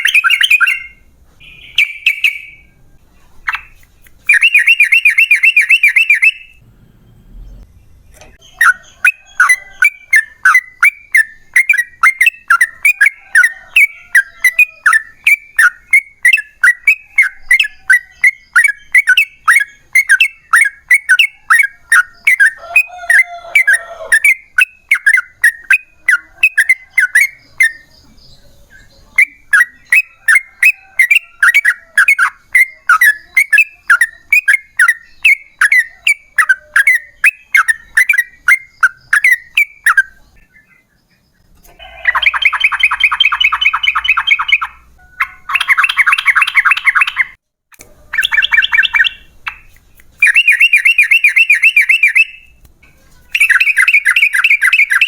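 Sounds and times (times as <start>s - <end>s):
bird chirping and trilling: 0.0s - 52.6s, 53.2s - 55.0s.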